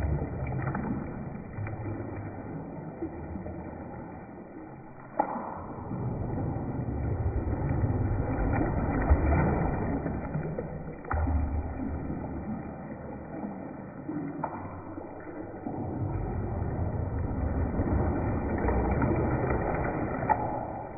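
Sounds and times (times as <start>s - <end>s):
water sloshing in a bathtub: 0.0s - 20.9s.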